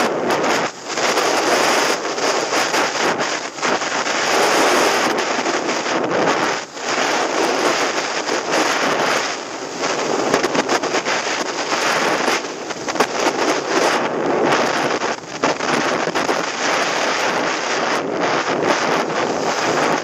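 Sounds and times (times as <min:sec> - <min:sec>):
skis scraping over snow: 0:00.0 - 0:20.0
wind buffeting microphone: 0:00.0 - 0:20.0.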